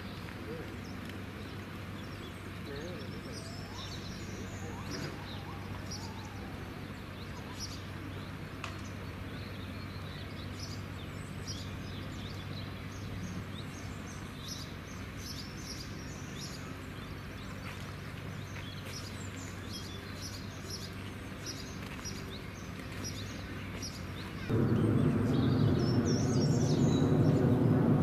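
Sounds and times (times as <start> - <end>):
small birds chirping: 0.0 - 28.0
steady low hum: 5.4 - 28.0.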